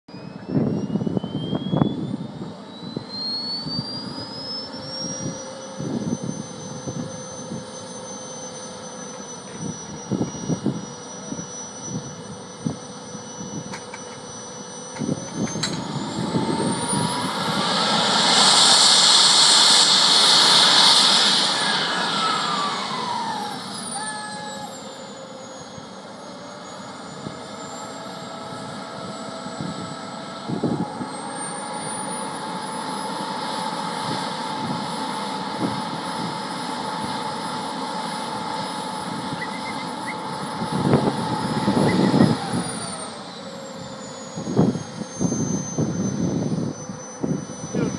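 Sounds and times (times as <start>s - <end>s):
jet turbine starting up: 0.1s - 47.9s.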